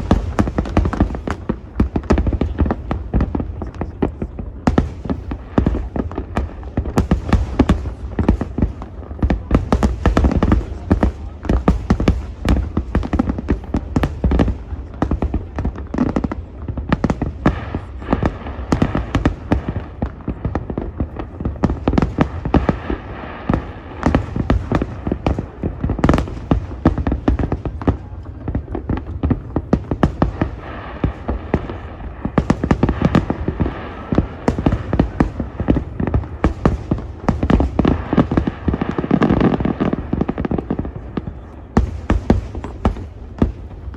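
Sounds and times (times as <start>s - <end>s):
firework bangs: 0.0s - 43.9s.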